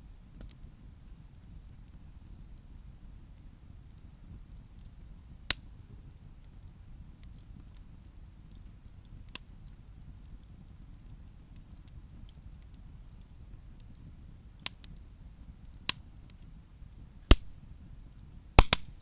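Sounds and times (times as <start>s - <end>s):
bonfire crackling: 0.0s - 19.0s
sharp pops from fire: 0.1s - 19.0s.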